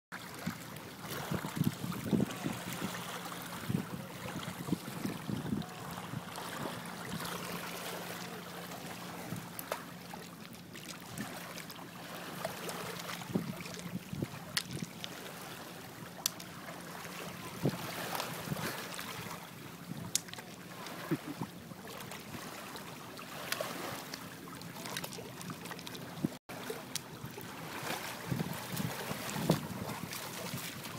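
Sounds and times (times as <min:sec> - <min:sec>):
water lapping and splashing: 0:00.1 - 0:30.9.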